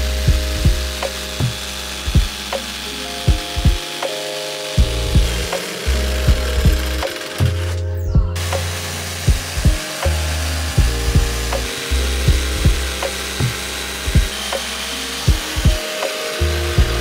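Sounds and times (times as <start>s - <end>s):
background music with beat: 0.0s - 17.0s
jigsaw cutting wood: 0.0s - 17.0s.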